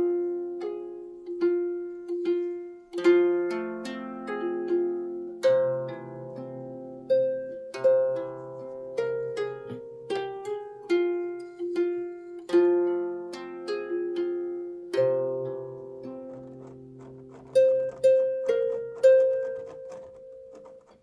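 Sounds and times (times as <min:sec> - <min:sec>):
calm plucked string melody: 0:00.0 - 0:21.0.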